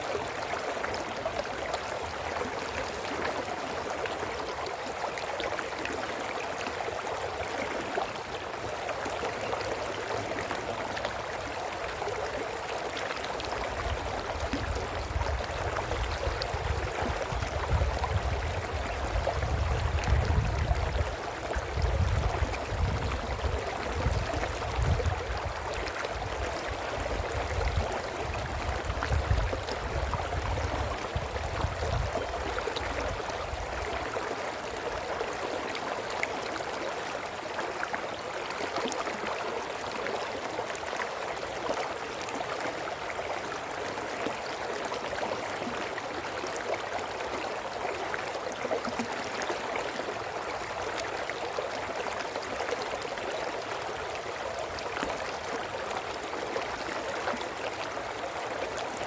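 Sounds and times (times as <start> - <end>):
brook babbling over rocks: 0.0 - 59.0.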